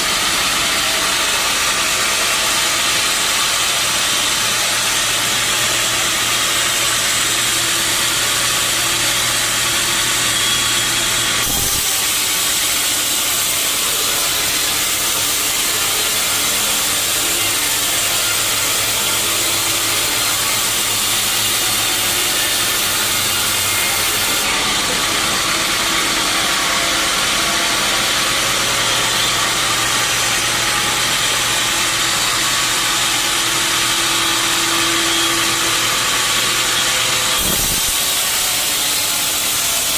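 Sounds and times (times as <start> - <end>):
sawmill machinery hiss and hum: 0.0 - 39.9.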